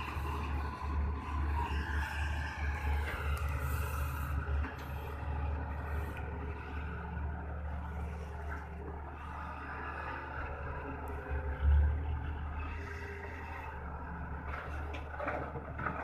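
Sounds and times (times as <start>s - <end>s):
heavy diesel machinery droning: 0.0s - 16.0s.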